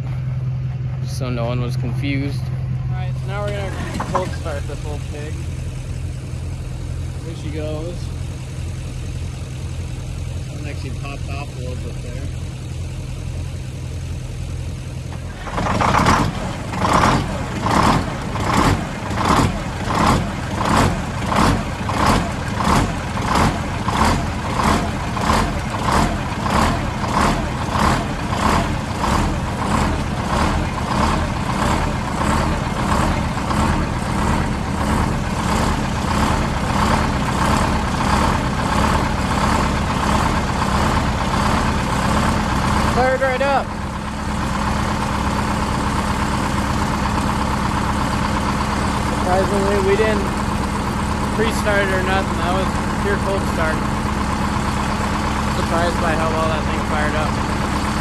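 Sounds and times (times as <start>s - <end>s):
diesel engine starting and running: 0.0s - 58.0s.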